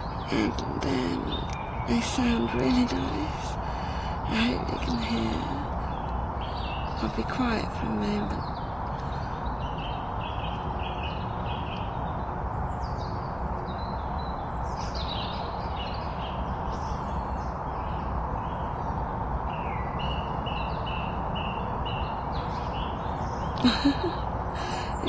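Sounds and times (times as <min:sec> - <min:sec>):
birds singing: 0:00.0 - 0:25.0.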